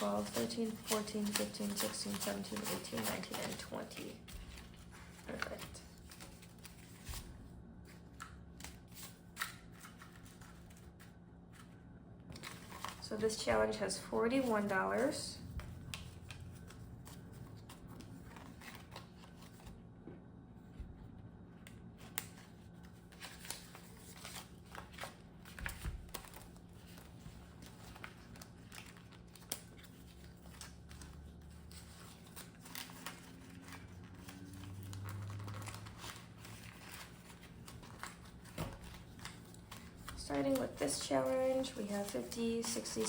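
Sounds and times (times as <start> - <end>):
paper banknotes rustling: 0.0 - 11.7, 12.3 - 19.7, 22.0 - 43.0.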